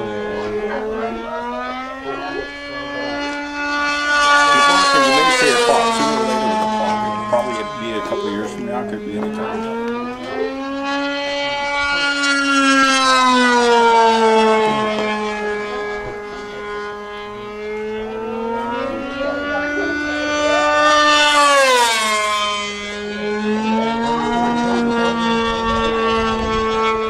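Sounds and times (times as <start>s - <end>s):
model airplane engine whining: 0.0s - 27.0s.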